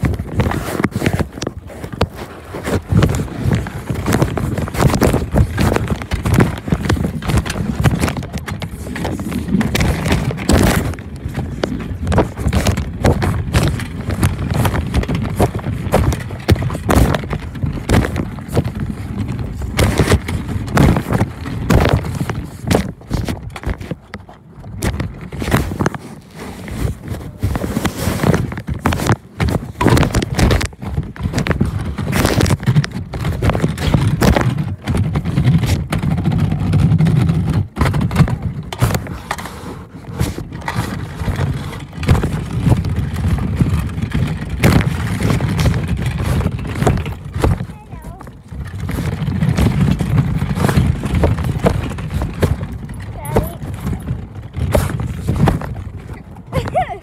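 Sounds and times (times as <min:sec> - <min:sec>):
cloth rubbing microphone: 0:00.0 - 0:24.0, 0:24.8 - 0:37.8, 0:38.8 - 0:57.0
knocks and rustling: 0:00.0 - 0:57.0.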